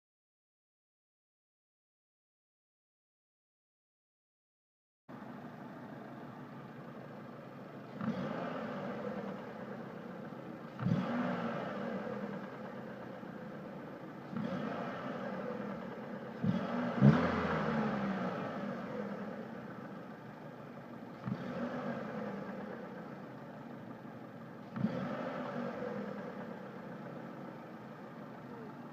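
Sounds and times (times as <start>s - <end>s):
car engine idling and revving: 5.1s - 28.9s.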